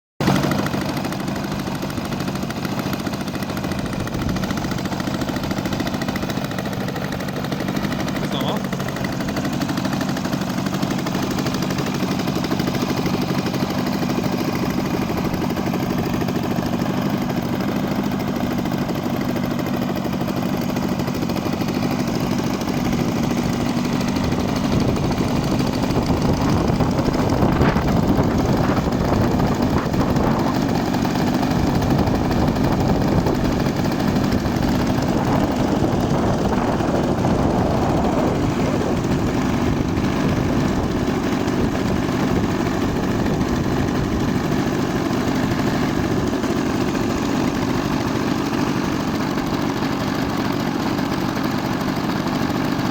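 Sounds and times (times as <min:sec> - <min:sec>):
model airplane engine popping: 0:00.2 - 0:52.9.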